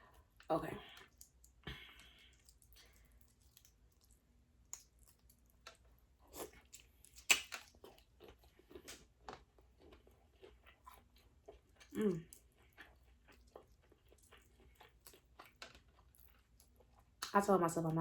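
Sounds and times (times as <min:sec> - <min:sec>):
close chewing with wet mouth clicks: 0:00.3 - 0:17.4.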